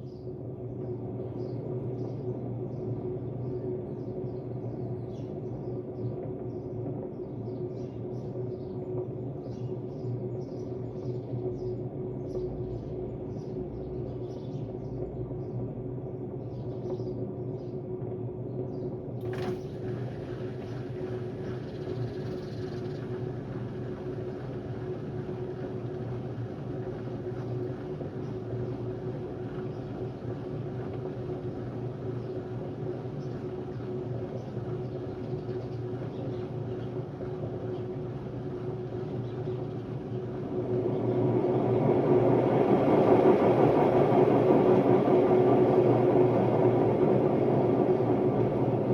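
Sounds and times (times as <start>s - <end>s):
washing machine humming: 0.0s - 48.9s.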